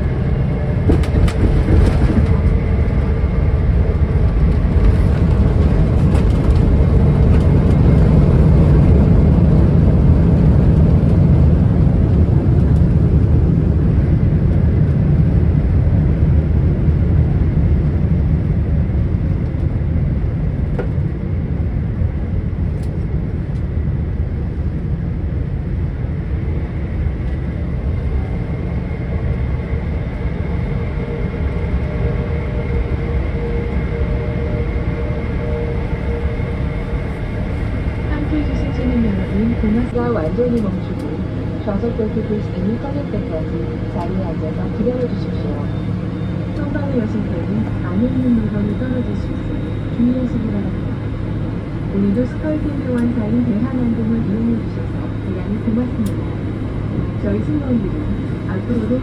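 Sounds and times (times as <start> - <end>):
airliner cabin rumble: 0.0 - 59.0
engine hum with high whine: 0.0 - 59.0.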